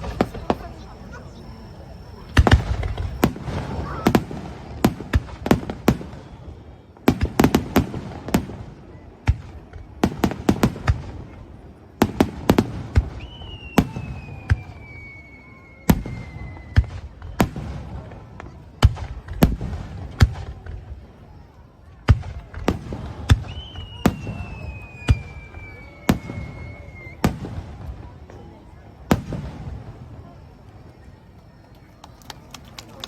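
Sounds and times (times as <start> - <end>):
falling firework whistle: 0.0 - 11.0, 12.0 - 32.8
fireworks bangs and crackles: 0.0 - 33.0.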